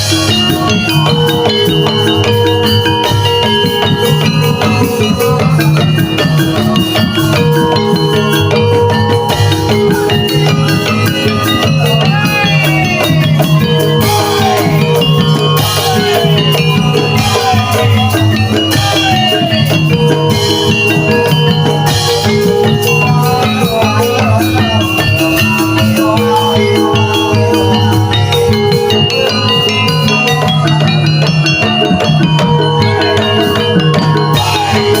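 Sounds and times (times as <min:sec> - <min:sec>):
drums: 0:00.0 - 0:35.0
struck metal gamelan keys: 0:00.0 - 0:35.0
wavering melody line: 0:00.0 - 0:35.0.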